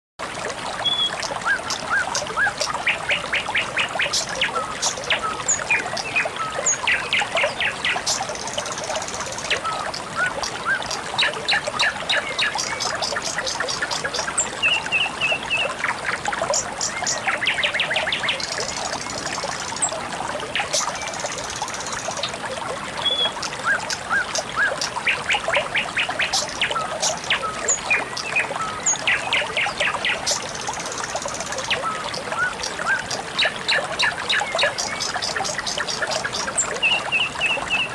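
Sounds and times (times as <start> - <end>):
water trickling: 0.2 - 37.9.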